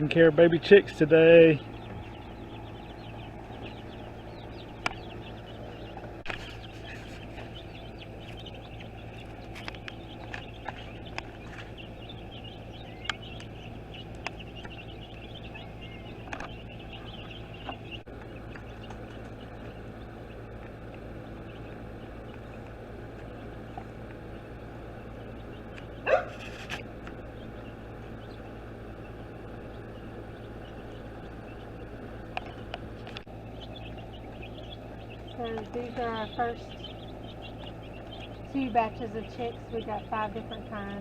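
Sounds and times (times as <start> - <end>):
baby chicks peeping: 0.0 - 41.0
steady low hum: 0.0 - 41.0.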